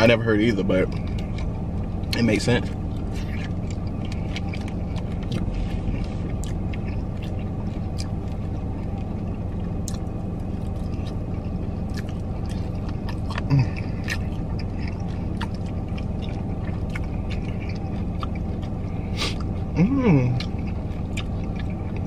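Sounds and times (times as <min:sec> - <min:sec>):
car idling hum: 0:00.0 - 0:22.0
eating from a plastic bag: 0:02.4 - 0:22.0.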